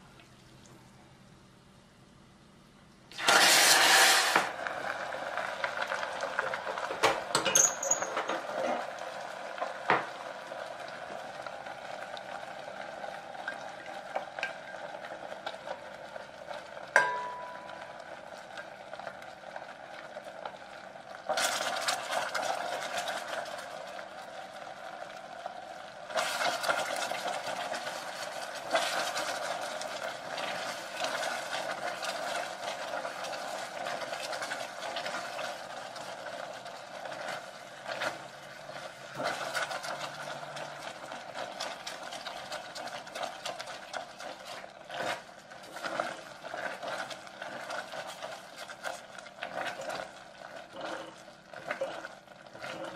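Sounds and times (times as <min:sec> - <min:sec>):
caramel sizzling and bubbling: 0:03.0 - 0:52.9.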